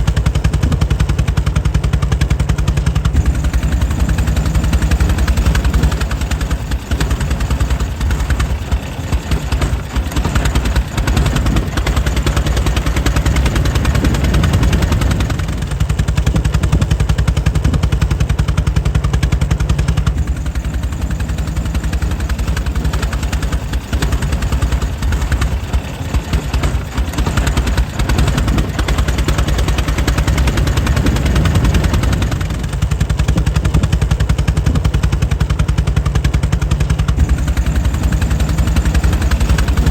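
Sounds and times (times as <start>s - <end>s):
air-cooled engine running: 0.0s - 39.9s.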